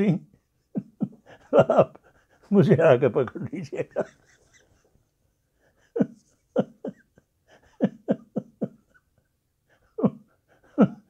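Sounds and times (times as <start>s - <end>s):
man chuckling: 0.0s - 5.0s, 5.8s - 11.0s.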